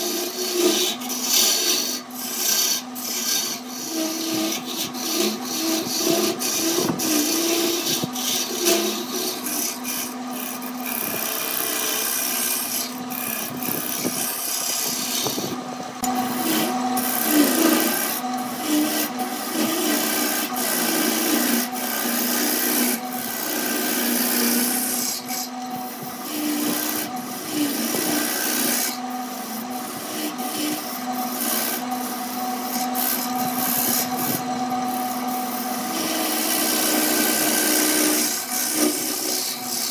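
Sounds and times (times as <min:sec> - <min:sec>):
lathe humming: 0:00.0 - 0:39.9
turning tool scraping wood: 0:00.0 - 0:39.9.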